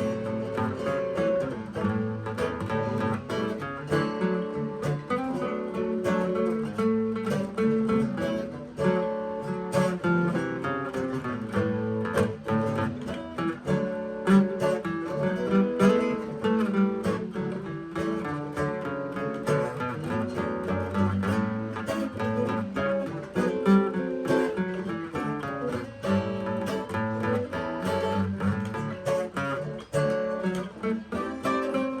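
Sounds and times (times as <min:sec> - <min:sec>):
acoustic guitar plucked and strummed: 0:00.0 - 0:32.0.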